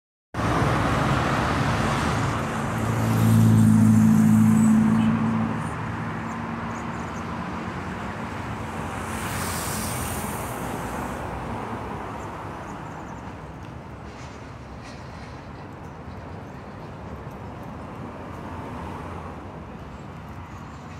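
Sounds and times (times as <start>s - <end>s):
passing vehicle engine hum: 0.4s - 20.9s
street traffic: 0.4s - 20.9s.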